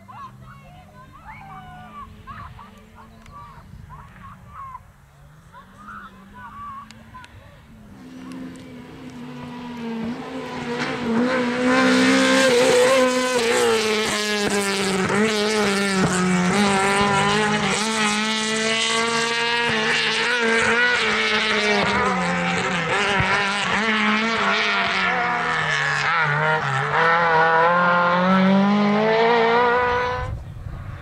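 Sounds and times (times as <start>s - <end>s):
rally car engine revving: 5.2s - 31.0s.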